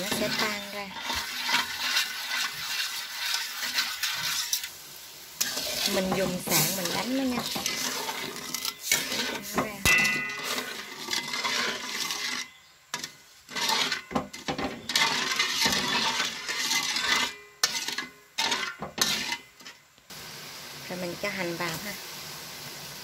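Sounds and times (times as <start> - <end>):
metal spatula scraping a wok: 0.0 - 19.9.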